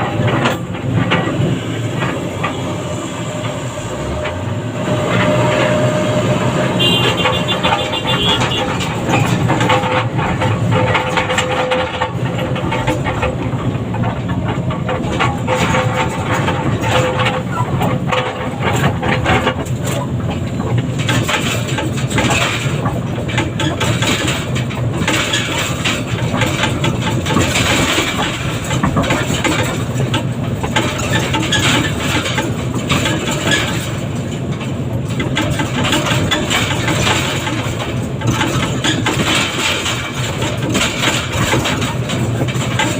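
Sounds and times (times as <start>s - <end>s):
excavator diesel engine running: 0.0s - 42.9s
log truck diesel engine running: 0.0s - 42.9s.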